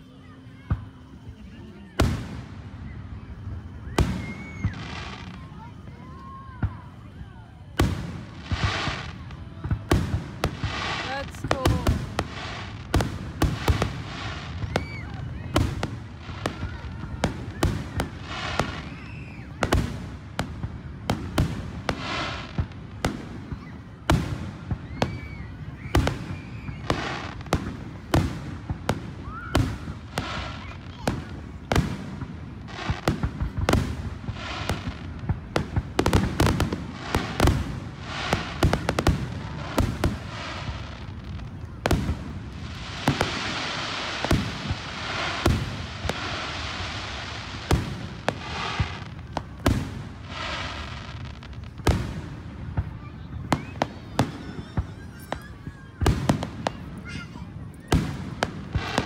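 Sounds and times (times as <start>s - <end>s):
fireworks bursting with bangs: 0.0s - 59.0s
fireworks crackling hiss: 0.0s - 59.0s.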